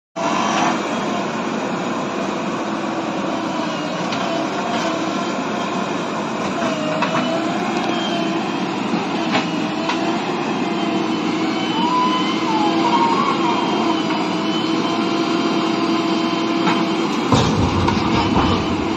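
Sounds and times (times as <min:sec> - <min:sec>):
diesel engine running: 0:00.2 - 0:18.9
hydraulic whine: 0:00.2 - 0:18.9.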